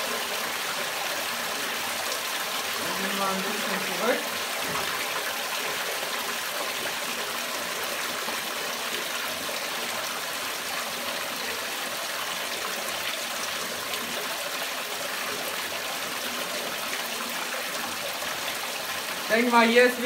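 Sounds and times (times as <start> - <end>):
water pouring and splashing: 0.0 - 20.0.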